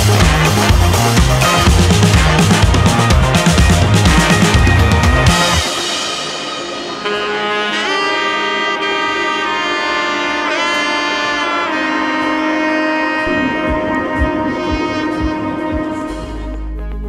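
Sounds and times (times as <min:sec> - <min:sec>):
music of long held notes: 0:00.3 - 0:17.0.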